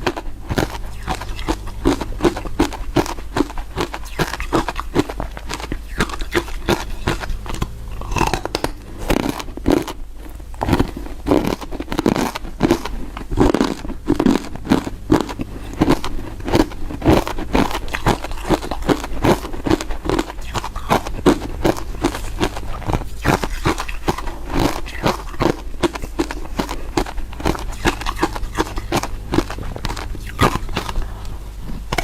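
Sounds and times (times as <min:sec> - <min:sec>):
crunching ice chips: 0:00.0 - 0:32.0.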